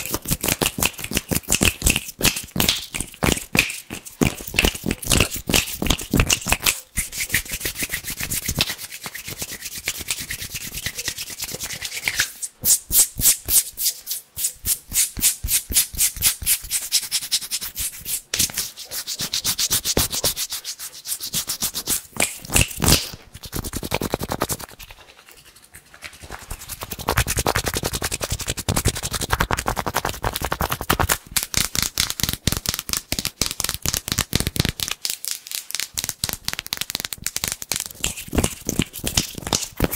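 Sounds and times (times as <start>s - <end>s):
hands rubbing together: 0.0s - 39.9s.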